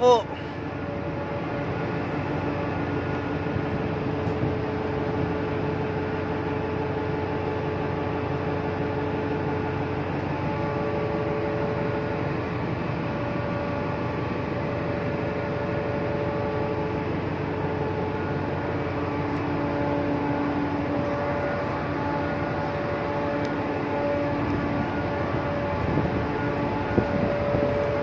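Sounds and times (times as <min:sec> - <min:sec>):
ship machinery hum: 0:00.0 - 0:28.0.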